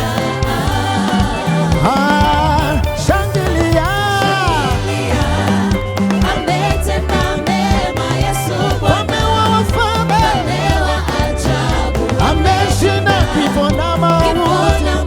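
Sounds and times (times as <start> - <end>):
gospel band playing: 0.0 - 15.0
people singing: 0.0 - 15.0.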